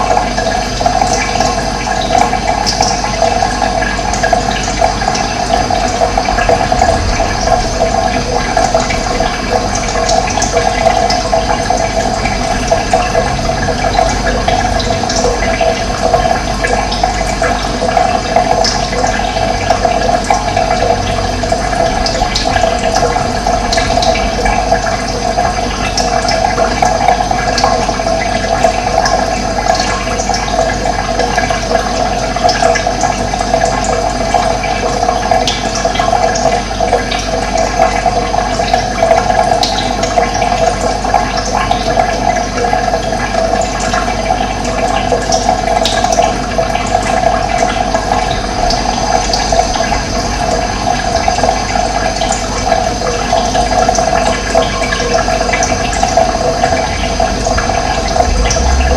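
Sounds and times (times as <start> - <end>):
running water gurgling: 0.0 - 58.9.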